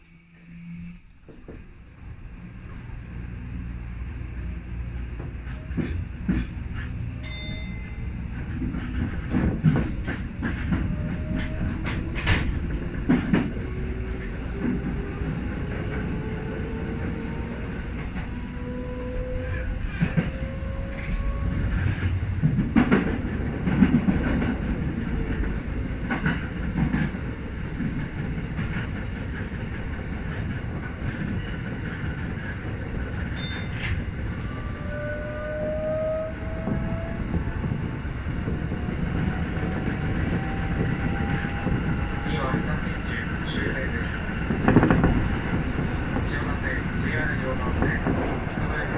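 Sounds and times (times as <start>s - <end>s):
train rumble: 0.0s - 48.9s.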